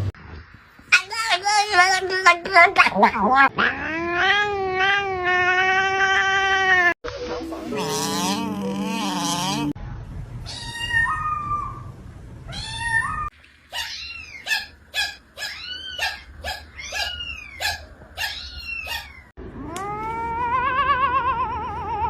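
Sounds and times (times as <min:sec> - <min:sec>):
cat meowing: 0:00.9 - 0:07.0, 0:07.7 - 0:09.8, 0:10.5 - 0:11.9, 0:12.5 - 0:22.0.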